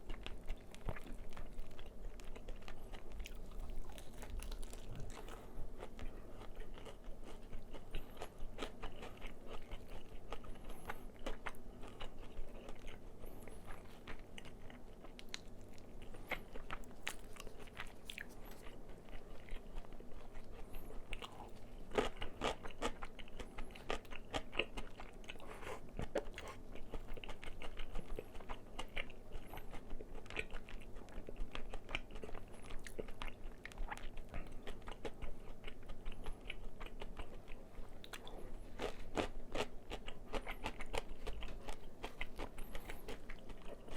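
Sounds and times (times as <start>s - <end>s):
crunchy chewing of fried chicken: 0.0s - 43.9s.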